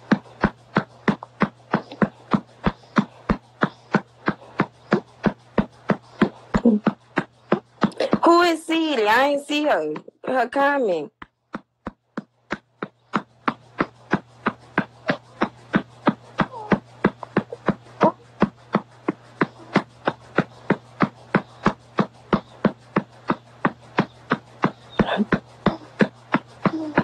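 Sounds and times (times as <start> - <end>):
faint low hum: 0.0 - 11.2, 12.2 - 27.0
rapid sharp tapping: 0.0 - 27.0.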